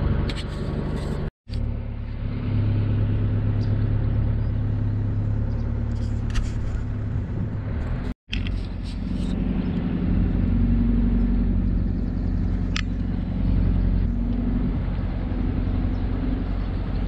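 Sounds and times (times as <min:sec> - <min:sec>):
boat diesel engine droning: 0:00.0 - 0:17.0.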